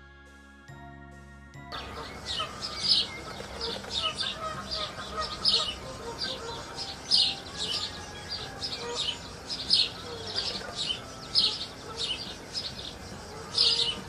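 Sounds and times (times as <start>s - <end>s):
small birds chirping: 1.7s - 14.0s.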